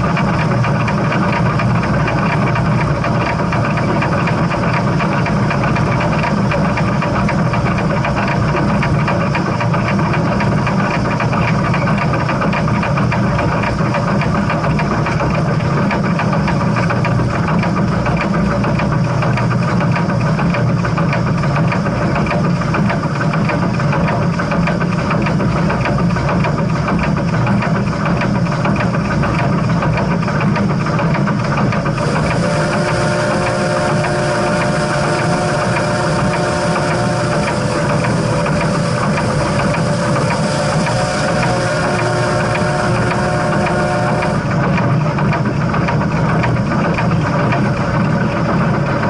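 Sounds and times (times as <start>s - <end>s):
steam train running: 0.0s - 49.0s.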